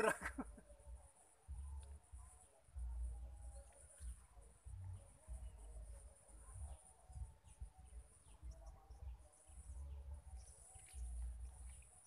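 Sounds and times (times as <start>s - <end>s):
bird chirps: 0.0s - 12.0s
wind rumble on microphone: 0.9s - 12.0s.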